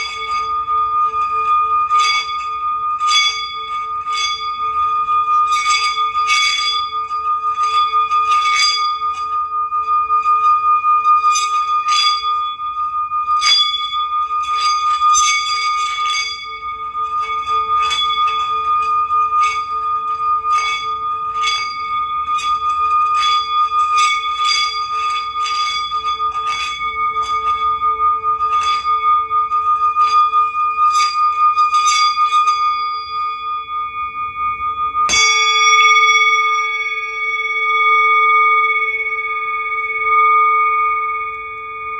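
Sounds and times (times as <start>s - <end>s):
light bell strikes: 0.0s - 41.9s
sustained bell tone: 0.0s - 41.9s.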